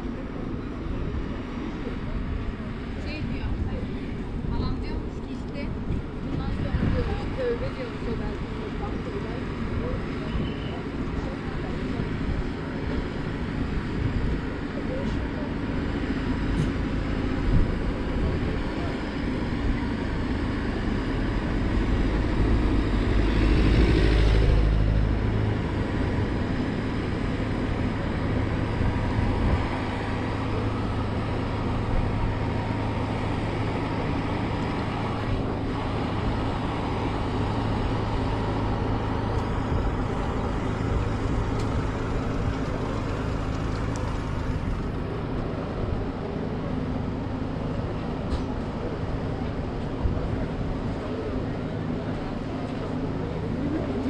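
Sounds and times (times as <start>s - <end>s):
low engine rumble: 0.0s - 54.0s
vehicle engine running: 0.0s - 54.0s.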